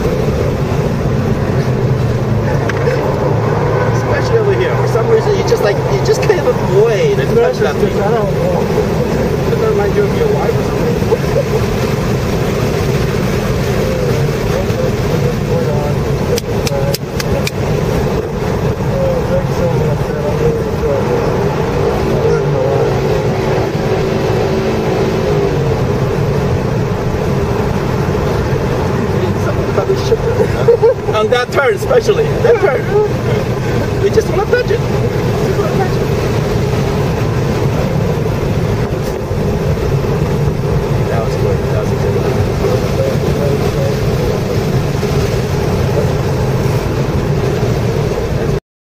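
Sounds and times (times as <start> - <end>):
car engine from inside cabin: 0.0 - 48.6
road and wind noise: 0.0 - 48.6.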